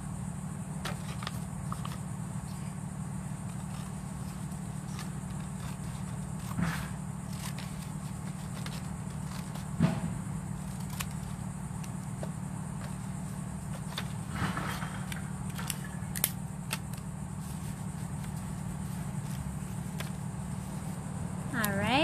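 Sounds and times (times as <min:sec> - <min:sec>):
steady low hum: 0:00.0 - 0:22.0
paper rustling and crinkling: 0:00.8 - 0:02.7, 0:03.4 - 0:21.0.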